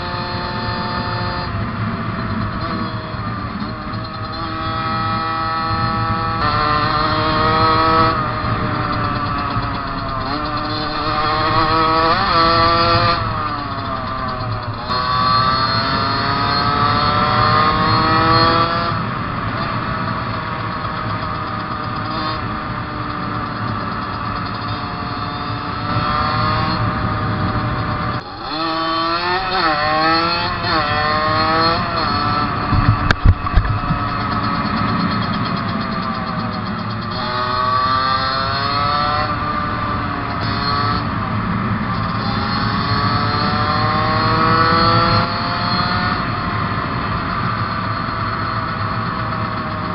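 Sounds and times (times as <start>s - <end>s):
motorcycle engine at full throttle: 0.0s - 49.9s.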